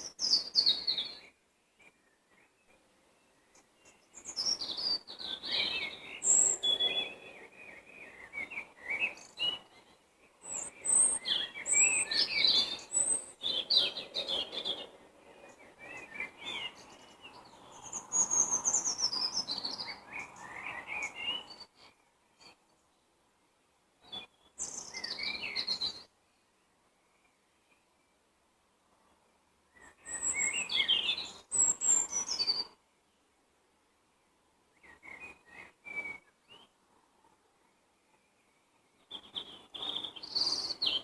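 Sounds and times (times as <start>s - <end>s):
songbird chirps and trills: 0.0s - 41.0s.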